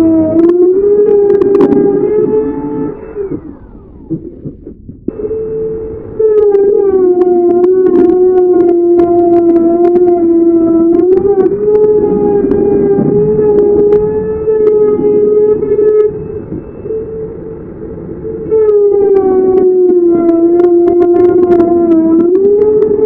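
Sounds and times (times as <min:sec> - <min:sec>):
electric router motor whine: 0:00.0 - 0:23.0.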